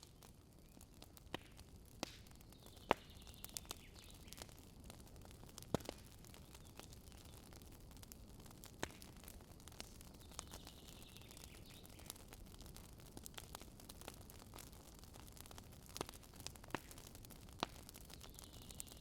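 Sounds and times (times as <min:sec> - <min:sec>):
campfire popping and cracking: 0:00.0 - 0:19.0.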